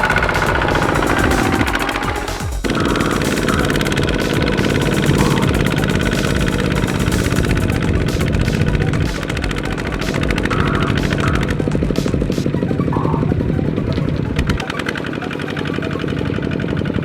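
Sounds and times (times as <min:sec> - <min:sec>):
diesel engine chugging: 0:00.0 - 0:17.0.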